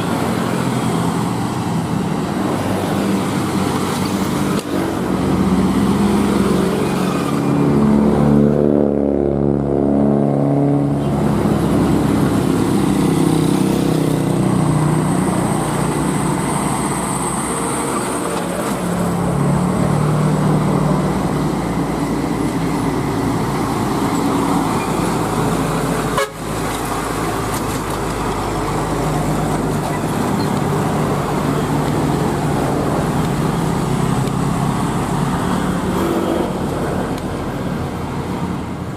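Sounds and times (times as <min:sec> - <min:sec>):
truck diesel engines labouring: 0:00.0 - 0:38.9.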